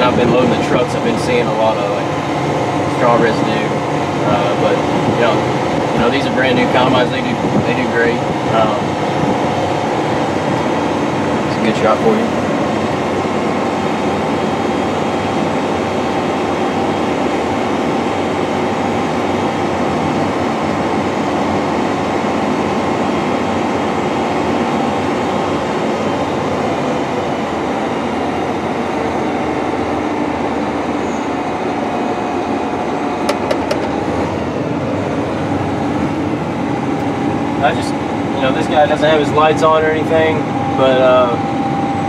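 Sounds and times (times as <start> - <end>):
tractor cab mechanical drone: 0.0 - 42.0.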